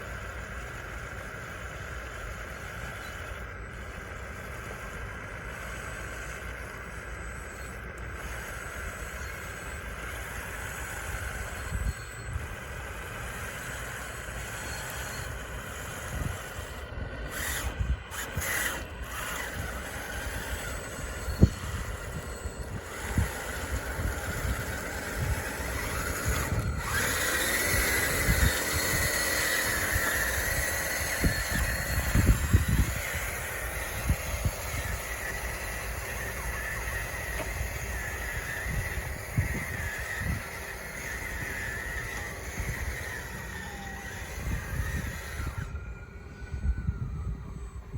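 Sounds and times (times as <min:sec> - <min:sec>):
small electric motors whining: 0:00.0 - 0:47.9.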